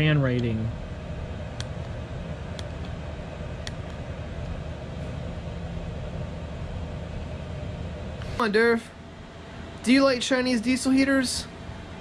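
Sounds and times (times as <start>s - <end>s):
diesel air heater running: 0.0s - 12.0s.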